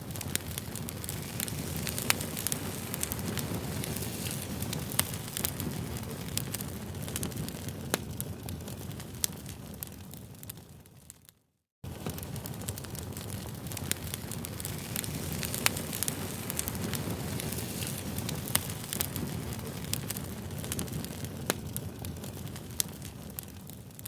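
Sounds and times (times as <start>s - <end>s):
campfire flame rushing: 0.0s - 11.0s, 11.8s - 24.0s
fire crackling and popping: 0.0s - 24.0s.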